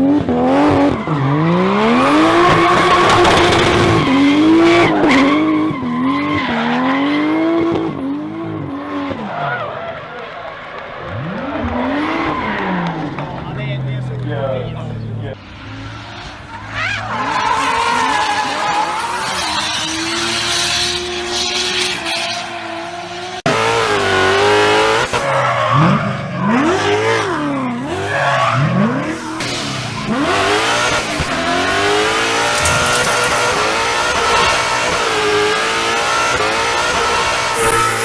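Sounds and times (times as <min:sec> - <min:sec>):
car engines revving high: 0:00.0 - 0:38.0
tyre squeal and skidding: 0:00.6 - 0:07.4, 0:08.4 - 0:13.2, 0:15.6 - 0:23.0, 0:25.2 - 0:38.0.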